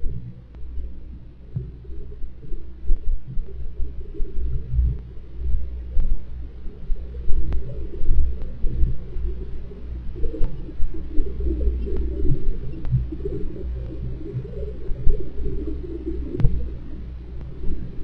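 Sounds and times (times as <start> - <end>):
faint clicks: 1.4 - 18.0.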